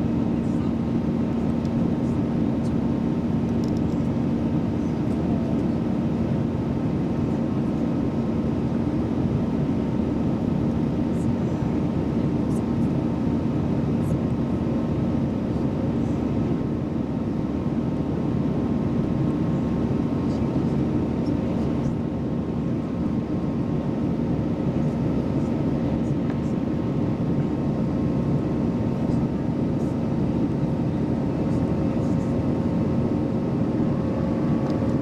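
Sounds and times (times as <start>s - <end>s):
airliner cabin drone: 0.0s - 35.0s.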